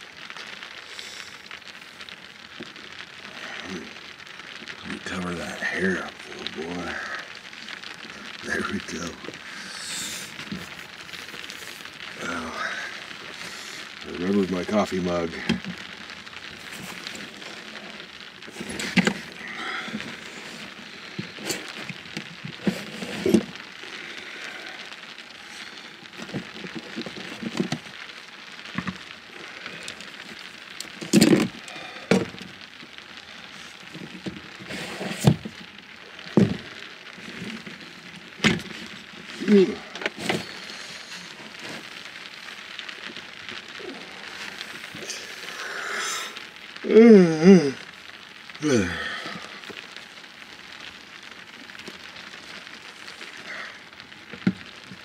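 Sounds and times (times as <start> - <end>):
rain on a vehicle roof: 0.0 - 55.0.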